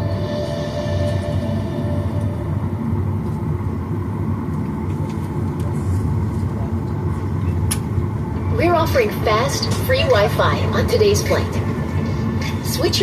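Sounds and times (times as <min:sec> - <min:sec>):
airplane engine low rumble: 0:00.0 - 0:13.0.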